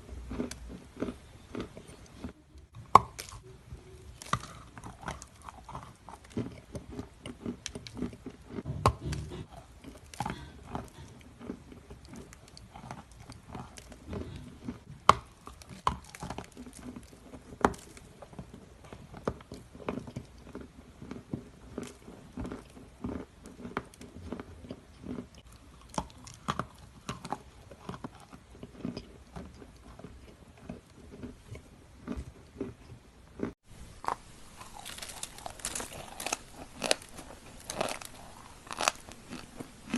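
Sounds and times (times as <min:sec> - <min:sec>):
chewing: 0:00.0 - 0:39.9
cookies crunching: 0:00.0 - 0:39.9.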